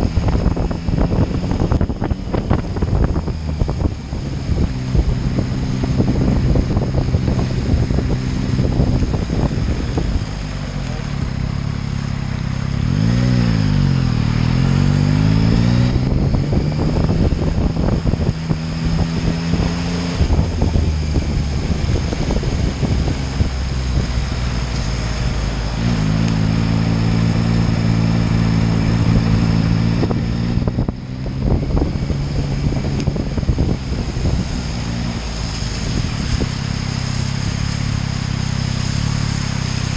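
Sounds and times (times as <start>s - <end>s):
wind rushing: 0.0s - 10.6s, 11.2s - 38.1s
motorcycle engine running: 0.0s - 39.9s.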